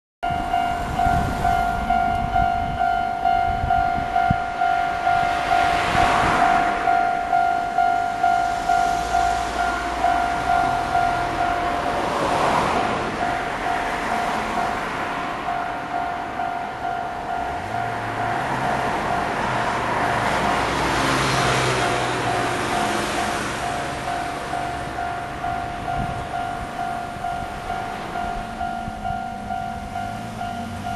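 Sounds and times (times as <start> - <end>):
level crossing bell ringing: 0.2 - 12.2, 13.1 - 19.8, 21.7 - 30.9
train running noise: 0.2 - 30.9.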